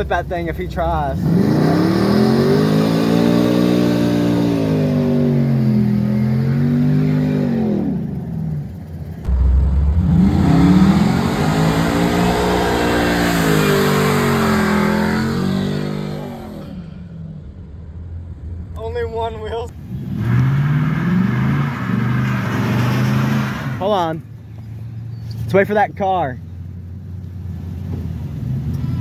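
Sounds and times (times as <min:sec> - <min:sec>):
truck engines revving: 0:00.0 - 0:29.0.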